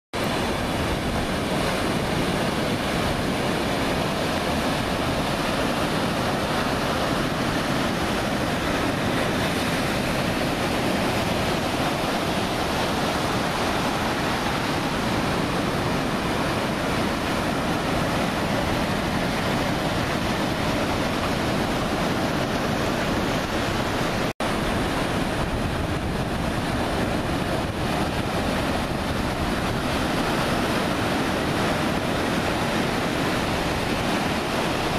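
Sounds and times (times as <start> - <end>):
ocean surf: 0.2 - 34.9
wind on microphone: 0.2 - 34.9.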